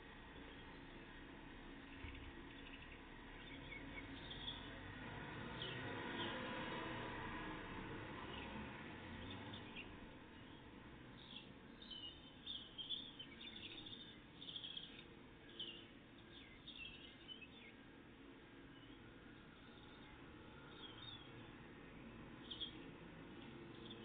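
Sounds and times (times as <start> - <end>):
faint songbird chirps and trills: 1.8 - 4.8, 5.4 - 7.0, 8.2 - 24.0.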